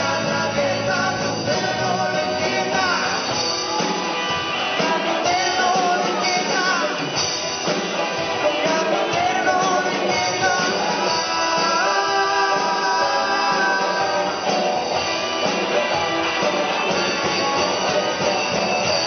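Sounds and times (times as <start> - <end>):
drum kit: 0.0 - 19.0
electric guitars: 0.0 - 19.0
rock band playing: 0.0 - 19.0.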